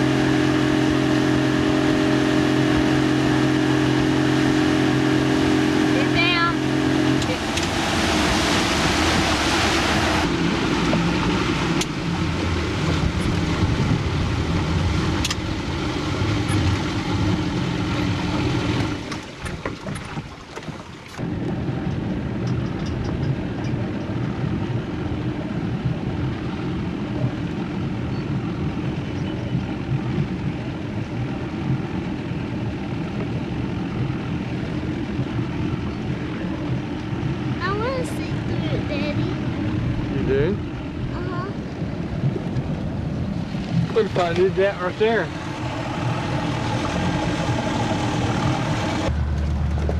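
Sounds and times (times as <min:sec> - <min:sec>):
motorboat engine running: 0:00.0 - 0:49.9
wind on microphone: 0:00.0 - 0:49.9.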